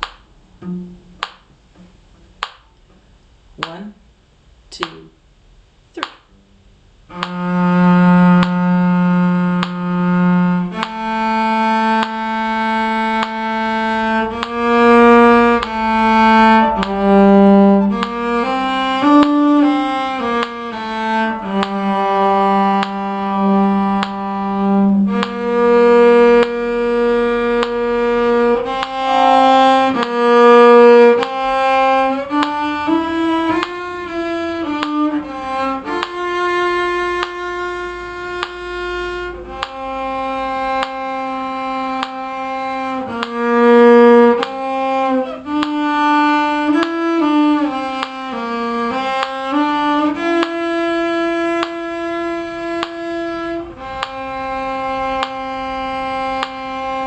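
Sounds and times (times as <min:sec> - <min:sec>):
solo violin melody: 0:00.6 - 0:01.2, 0:07.1 - 0:57.0.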